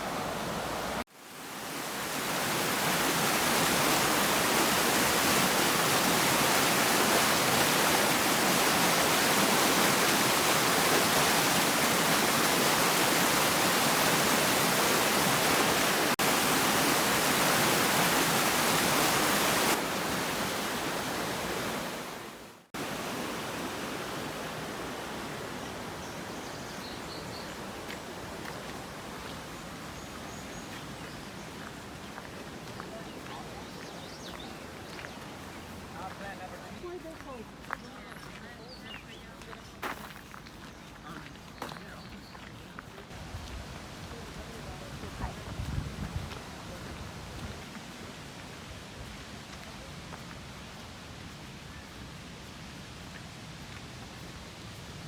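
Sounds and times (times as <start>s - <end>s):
waterfall rushing: 0.0s - 39.8s, 40.9s - 55.0s.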